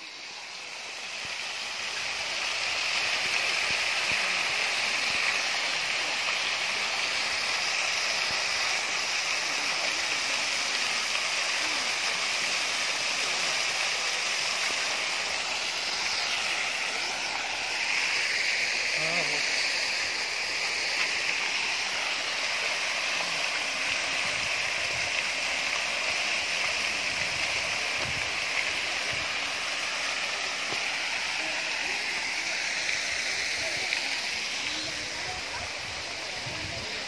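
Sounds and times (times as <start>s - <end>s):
fountain splashing into water: 0.0s - 37.0s.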